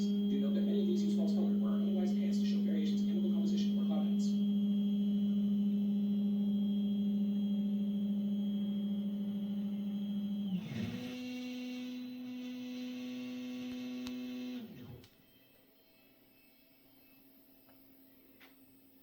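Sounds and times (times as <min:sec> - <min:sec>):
stepper motors whining: 0:00.0 - 0:17.8.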